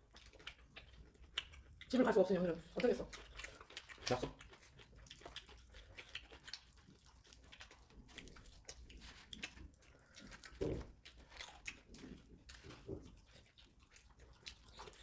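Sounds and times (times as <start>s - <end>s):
people chewing crunchy food: 0.0s - 15.0s.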